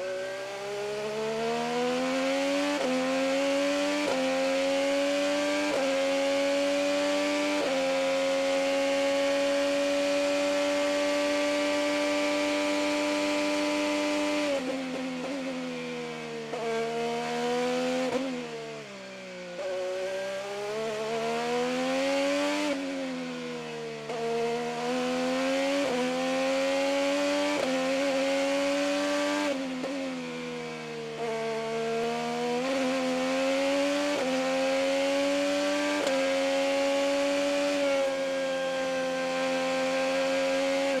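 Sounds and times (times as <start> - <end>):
racing car engine revving: 0.1 - 18.6, 19.6 - 41.0.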